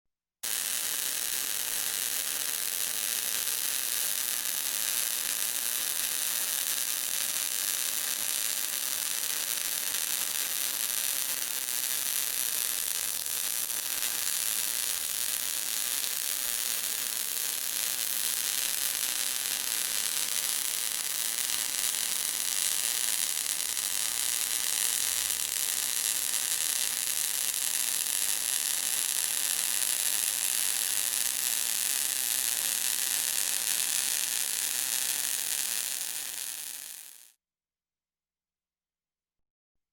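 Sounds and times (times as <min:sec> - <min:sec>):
electric sparks crackling: 0:00.4 - 0:37.3.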